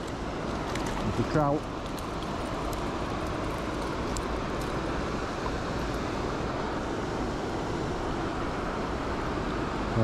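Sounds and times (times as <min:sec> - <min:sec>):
river water rushing over stones: 0:00.0 - 0:10.0.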